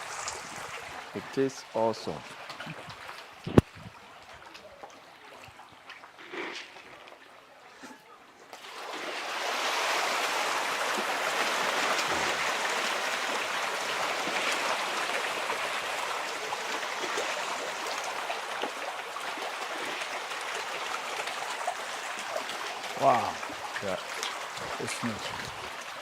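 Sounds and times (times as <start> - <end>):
running water splashing: 0.0 - 7.2, 8.6 - 26.0.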